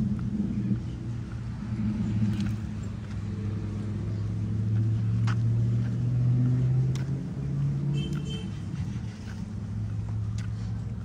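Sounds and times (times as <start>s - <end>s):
low steady engine hum: 0.0s - 11.0s.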